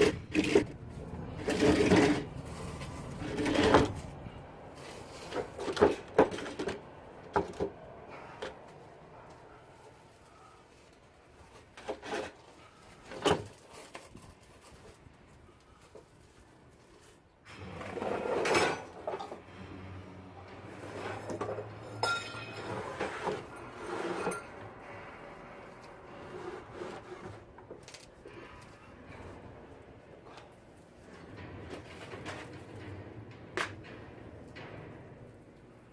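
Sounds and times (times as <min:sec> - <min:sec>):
clattering and scraping handling noise: 0:00.0 - 0:35.9.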